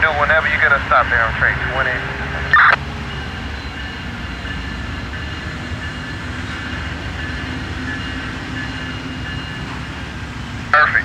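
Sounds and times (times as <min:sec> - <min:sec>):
diesel locomotive engines idling: 0:00.0 - 0:11.0.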